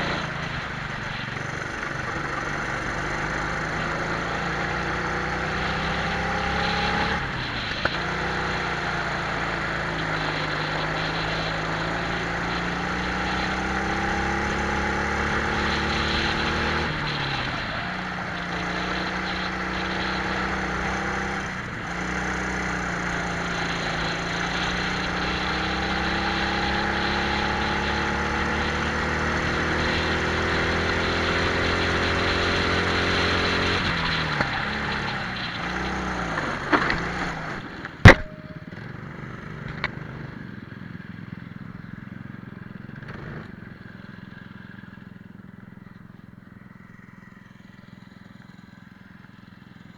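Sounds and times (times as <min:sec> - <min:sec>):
kart engines revving: 0:00.0 - 0:47.0.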